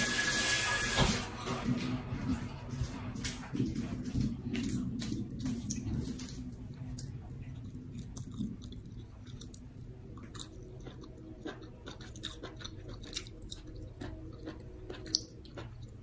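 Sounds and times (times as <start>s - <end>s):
person chewing food: 2.7s - 16.0s.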